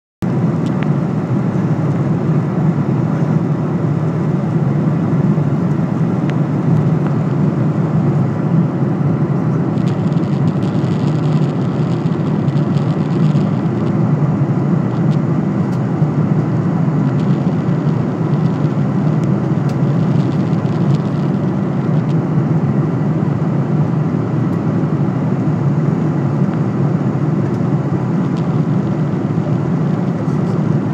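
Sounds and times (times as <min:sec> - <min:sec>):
airliner cabin engine rumble: 0:00.2 - 0:30.9.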